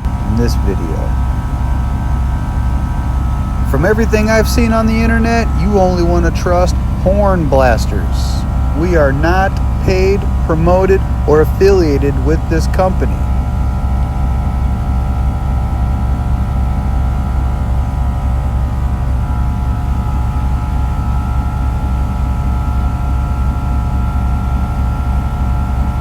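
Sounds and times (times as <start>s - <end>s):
faint steady whine: 0.0s - 26.0s
low pulsing mechanical rumble: 0.0s - 26.0s.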